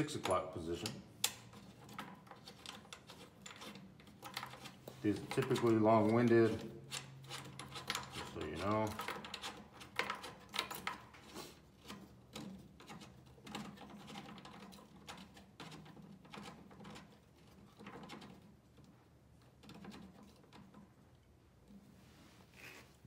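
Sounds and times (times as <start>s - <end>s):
connector collar clicking and scraping: 0.0s - 21.8s.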